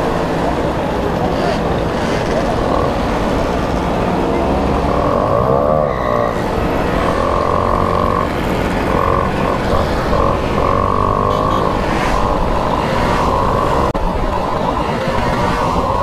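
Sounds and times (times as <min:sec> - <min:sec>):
moped engine whine: 0:00.0 - 0:16.0.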